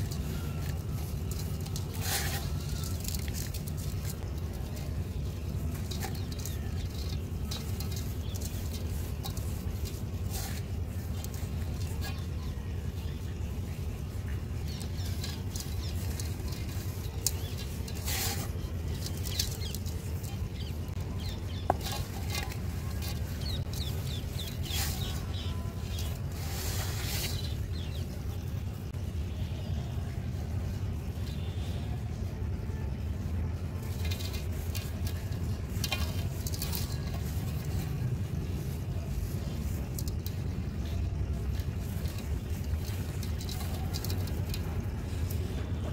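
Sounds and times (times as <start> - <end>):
dry mud crumbling: 0.0 - 29.4, 30.4 - 45.9.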